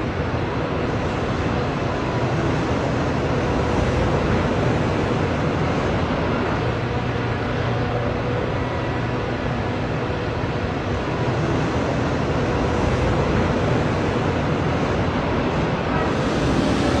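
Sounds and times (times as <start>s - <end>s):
excavator engines running: 0.0s - 17.0s.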